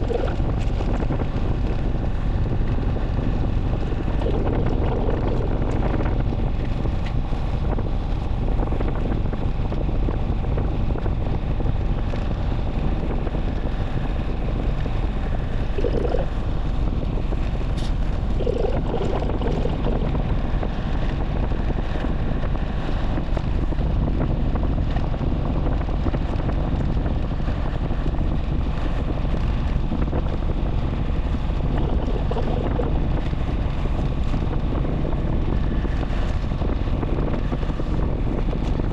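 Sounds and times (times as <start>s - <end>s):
motorcycle low rumble: 0.0s - 38.9s
wind buffeting microphone: 0.0s - 38.9s.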